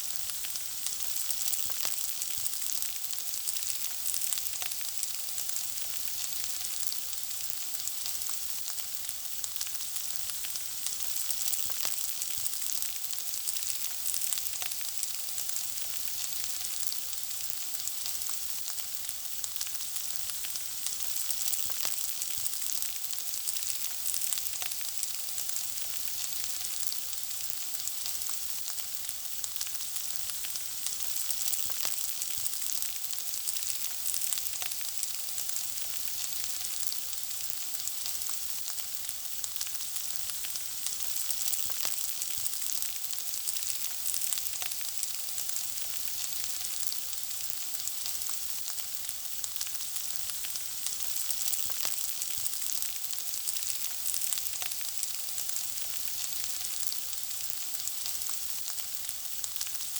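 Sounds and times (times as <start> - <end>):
food frying with sizzle: 0.0 - 59.9.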